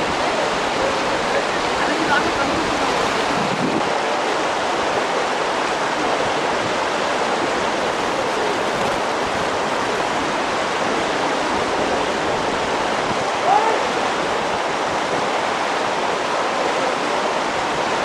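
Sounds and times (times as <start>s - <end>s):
river water rushing over rapids: 0.0s - 18.0s.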